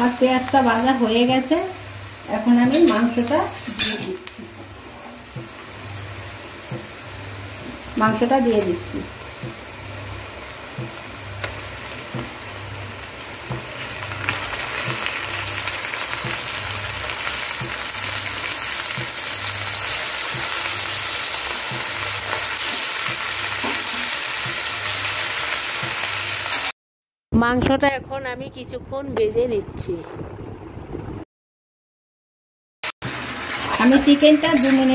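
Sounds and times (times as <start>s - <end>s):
chicken sizzling in hot oil: 0.0s - 26.8s, 33.0s - 34.9s.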